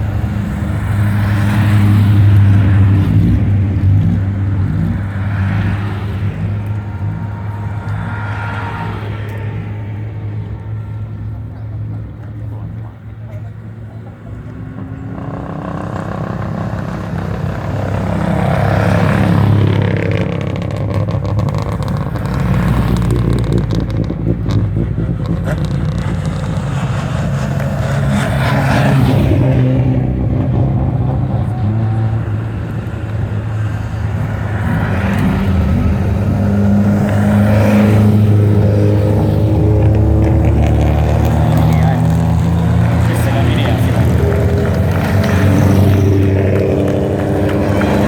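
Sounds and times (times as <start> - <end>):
race cars driving past: 0.0 - 48.0.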